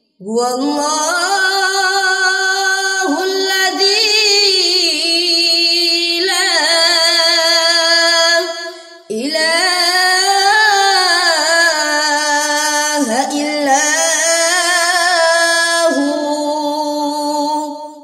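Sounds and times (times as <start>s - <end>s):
boy reciting melodically: 0.2s - 18.0s.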